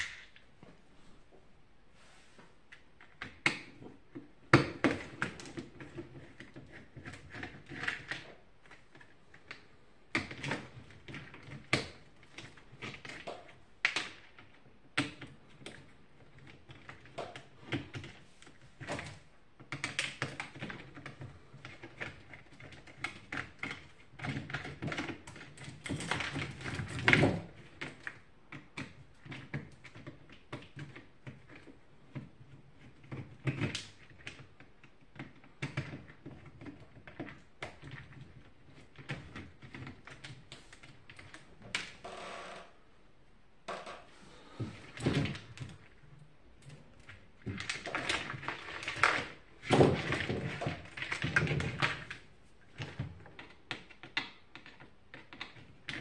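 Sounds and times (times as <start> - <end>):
plastic and wire clicking and rustling: 2.4 - 42.8, 43.6 - 56.0.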